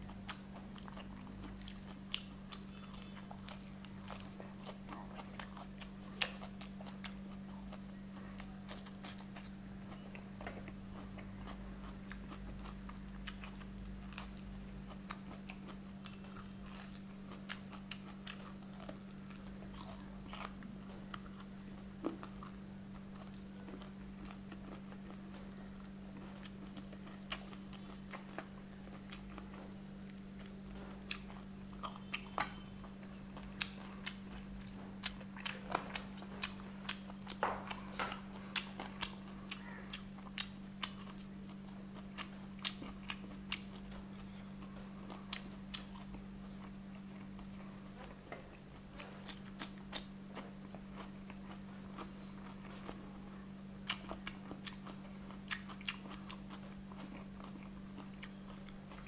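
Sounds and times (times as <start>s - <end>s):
chewing: 0.0s - 53.2s, 53.8s - 59.0s
crunching fried chicken: 0.0s - 59.0s.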